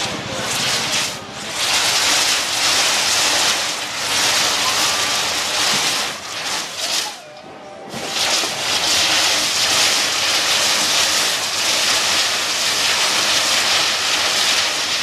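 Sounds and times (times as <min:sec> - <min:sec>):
fireworks rockets hissing: 0:00.0 - 0:15.0.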